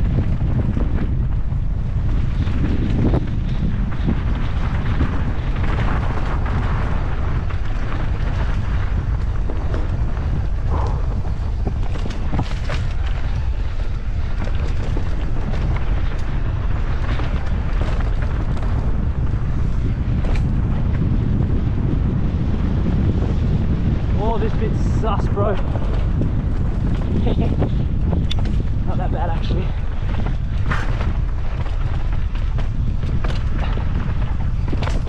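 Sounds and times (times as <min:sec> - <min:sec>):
bike tyres knocking and rattling: 0:00.0 - 0:35.0
wind buffeting microphone: 0:00.0 - 0:35.0.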